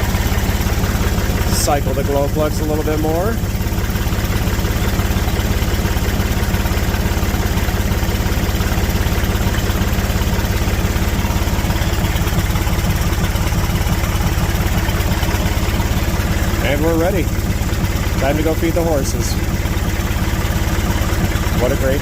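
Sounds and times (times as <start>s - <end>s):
diesel tractor engine idling: 0.0s - 22.0s.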